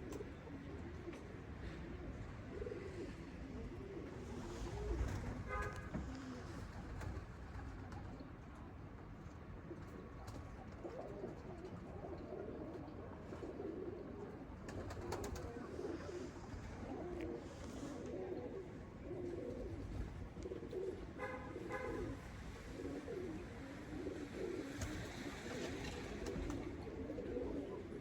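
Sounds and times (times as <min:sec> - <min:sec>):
pigeons cooing: 0:00.0 - 0:08.8, 0:09.4 - 0:28.0.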